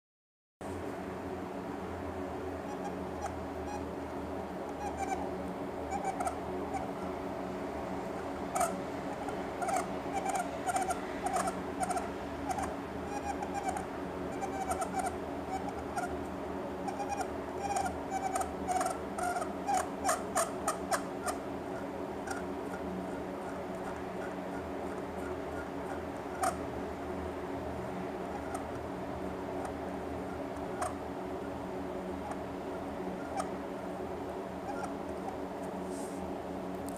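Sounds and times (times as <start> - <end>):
steady low hum: 0.6 - 36.9.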